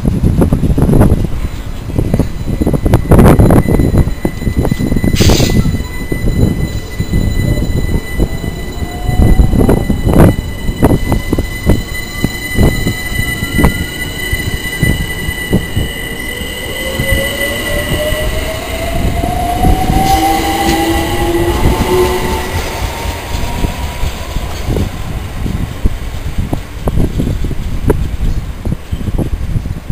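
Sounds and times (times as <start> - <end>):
electric train motor whine: 1.1 - 27.7.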